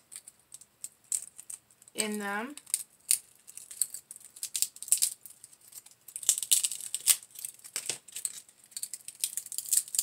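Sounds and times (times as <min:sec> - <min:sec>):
pine cone crackling and snapping: 0:00.0 - 0:10.0.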